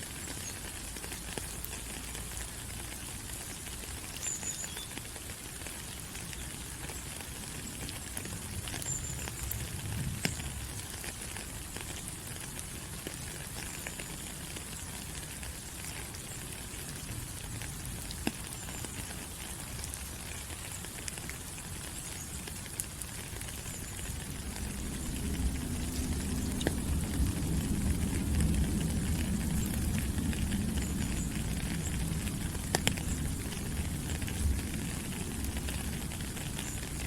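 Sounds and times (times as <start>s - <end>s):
rain falling on leaves: 0.0s - 37.0s.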